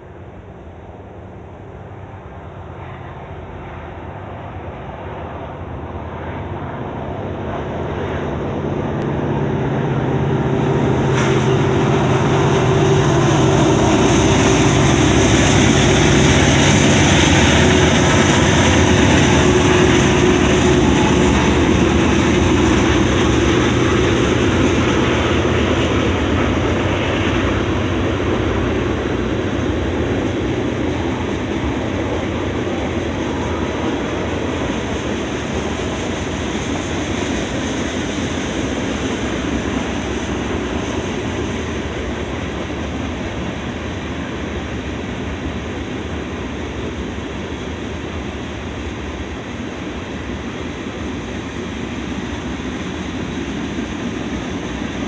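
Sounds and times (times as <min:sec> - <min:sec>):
diesel locomotive engine drone: 0:00.0 - 0:55.0
freight cars rumbling on rails: 0:00.0 - 0:55.0.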